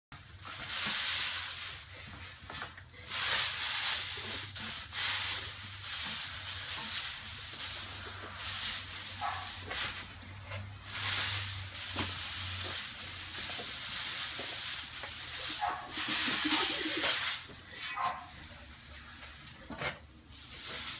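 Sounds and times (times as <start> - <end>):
water spraying from garden hose: 0.1 - 20.9.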